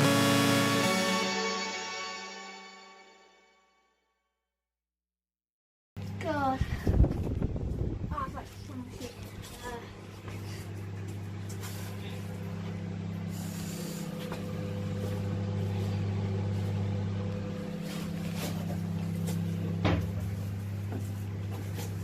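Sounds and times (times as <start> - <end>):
microwave oven humming: 0.0 - 1.9, 6.0 - 22.0.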